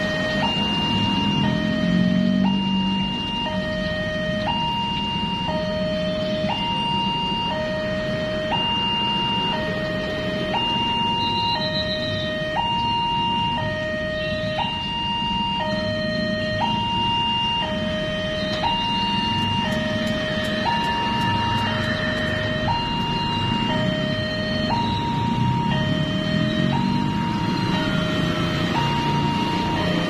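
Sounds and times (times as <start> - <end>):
two-tone crossing warning siren: 0.0 - 30.0.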